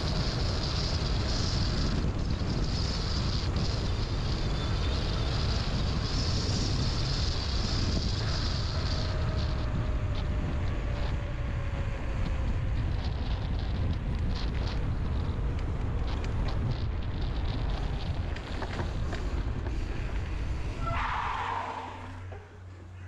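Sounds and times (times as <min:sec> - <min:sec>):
wind rumbling on microphone: 0:00.0 - 0:22.6
bike tyre and drivetrain noise: 0:00.0 - 0:23.0.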